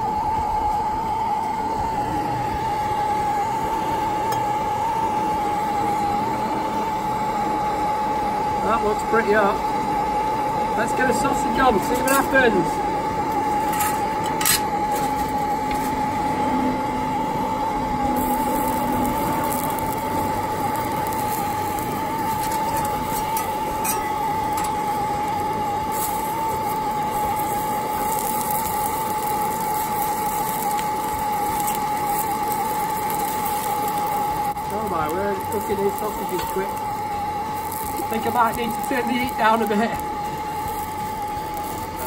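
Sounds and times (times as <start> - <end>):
constant whistling tone: 0.0 - 42.0
gas blow lamps roaring: 0.0 - 42.0
sausages sizzling in hot oil: 0.0 - 42.0.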